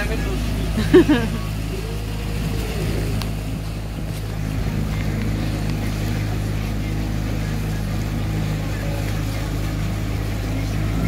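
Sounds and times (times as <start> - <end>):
outboard motor droning: 0.0 - 11.0
wind and water hiss: 0.0 - 11.0.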